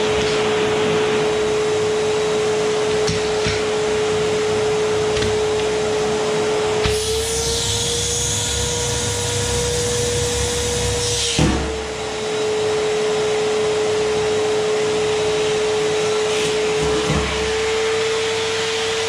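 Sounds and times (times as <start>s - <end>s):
vacuum cleaner motor whine: 0.0s - 19.0s.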